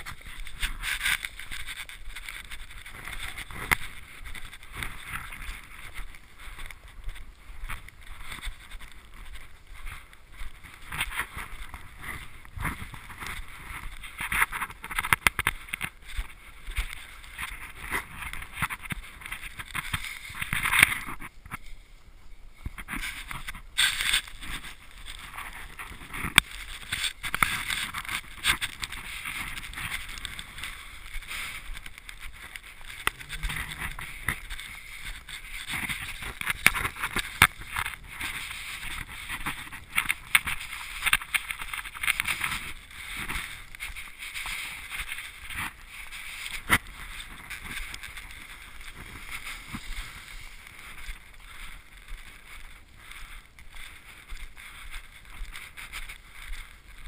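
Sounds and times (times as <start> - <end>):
footsteps crunching in snow: 0.0 - 57.0
wind hiss on microphone: 0.0 - 57.0.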